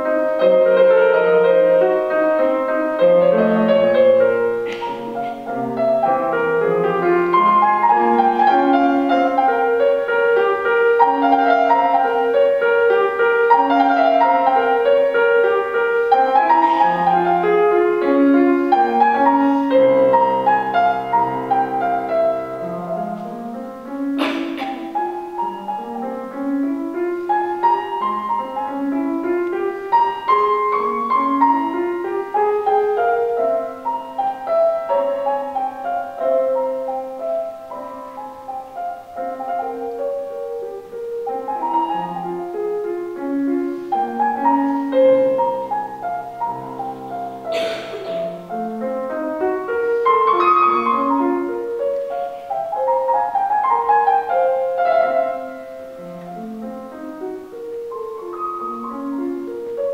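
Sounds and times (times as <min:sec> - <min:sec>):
classical grand piano: 0:00.0 - 0:59.9.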